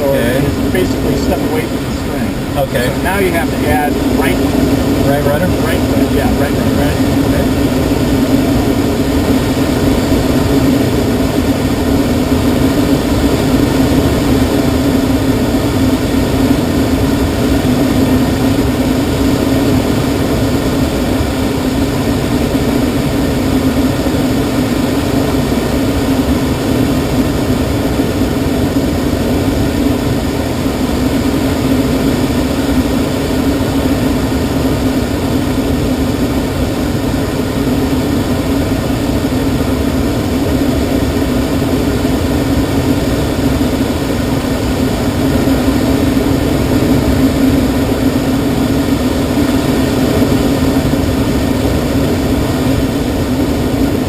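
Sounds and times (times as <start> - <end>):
air rushing over glider: 0.0 - 54.0
constant low hum: 0.0 - 54.0.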